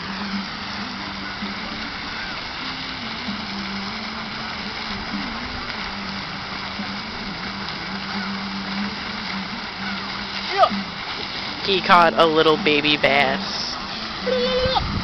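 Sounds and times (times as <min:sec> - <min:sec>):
fountain spray falling on water: 0:00.0 - 0:15.0.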